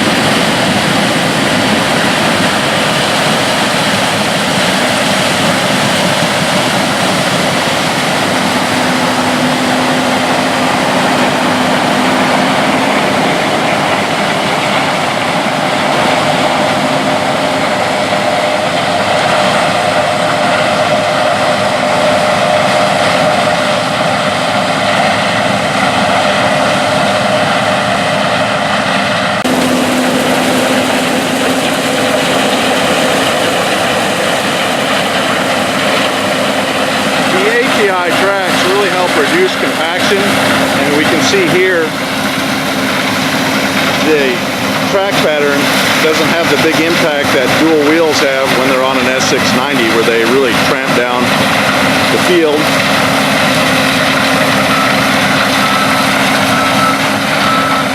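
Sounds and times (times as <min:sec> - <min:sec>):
combine harvester drone: 0:00.0 - 0:57.9.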